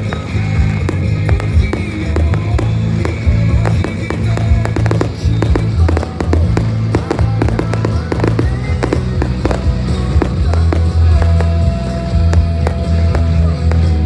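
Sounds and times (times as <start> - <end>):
fireworks bangs and crackles: 0.0 - 14.0
loud music with bass: 0.0 - 14.0.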